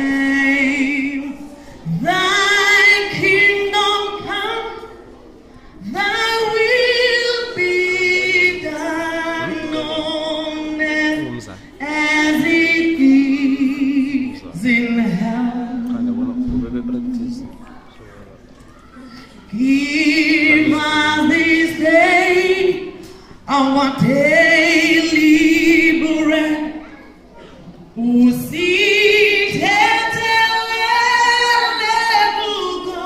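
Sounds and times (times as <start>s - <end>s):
woman singing: 0.0s - 4.9s, 5.8s - 11.2s, 11.8s - 16.1s, 19.5s - 26.8s, 28.0s - 33.0s.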